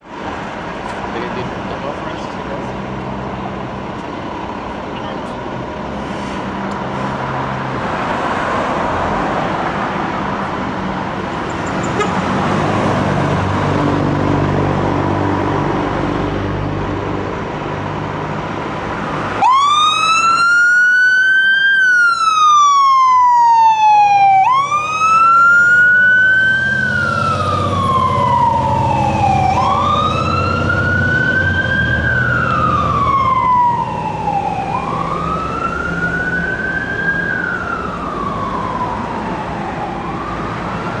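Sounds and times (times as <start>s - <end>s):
diesel engine rumbling: 0.0s - 41.0s
fire engine siren wailing: 6.6s - 16.8s, 18.3s - 41.0s.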